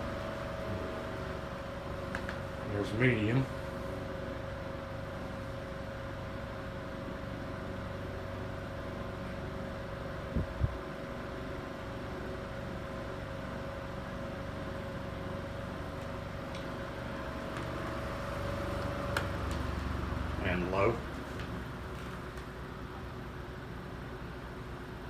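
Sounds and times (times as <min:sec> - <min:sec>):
desk fan humming: 0:00.0 - 0:25.0.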